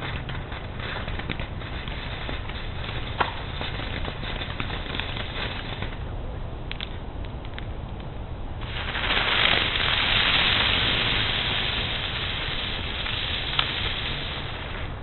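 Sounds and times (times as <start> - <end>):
firework fountain hissing: 0.0 - 6.0, 8.6 - 15.0.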